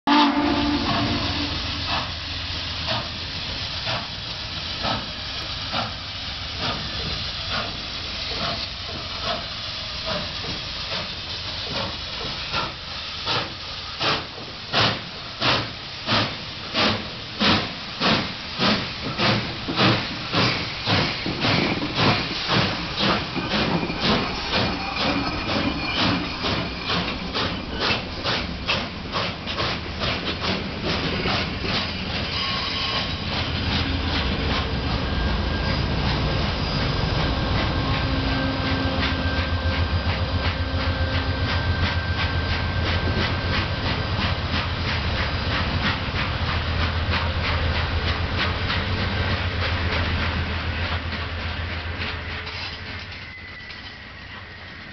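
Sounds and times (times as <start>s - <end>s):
steam hissing from cylinders: 0.1s - 54.9s
steam locomotive chuffing: 0.1s - 54.9s.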